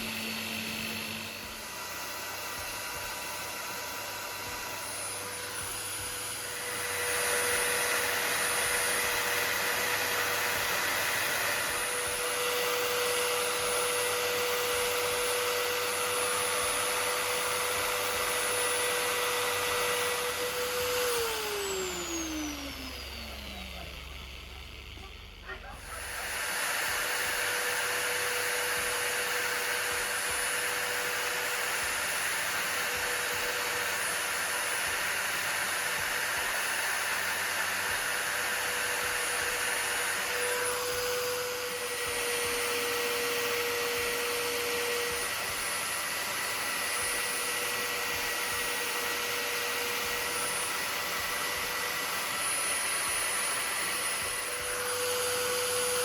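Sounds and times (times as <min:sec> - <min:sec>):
electric power tool running: 0:00.0 - 0:56.0.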